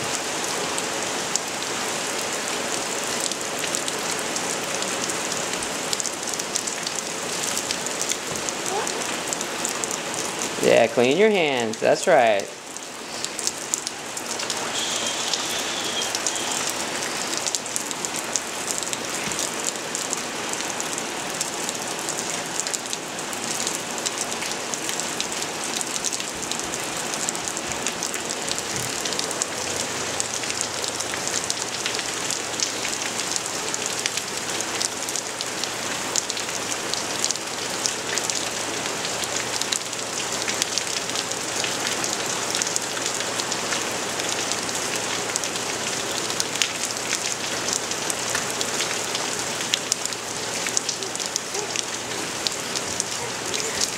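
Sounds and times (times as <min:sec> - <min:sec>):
rain on wooden deck and lawn: 0:00.0 - 0:53.9.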